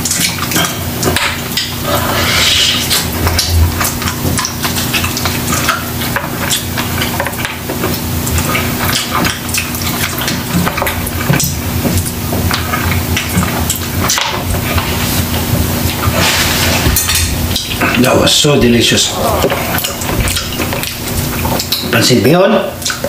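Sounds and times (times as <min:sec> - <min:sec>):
wet smacking and clicks: 0:00.0 - 0:01.8, 0:02.6 - 0:16.2, 0:17.0 - 0:22.1, 0:22.7 - 0:23.0
man chewing meat: 0:00.0 - 0:23.0.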